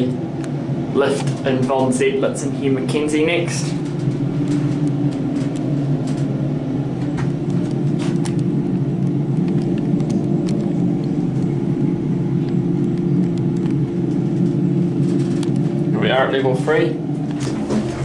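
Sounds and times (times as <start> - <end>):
lift hum and rumble: 0.0 - 18.0.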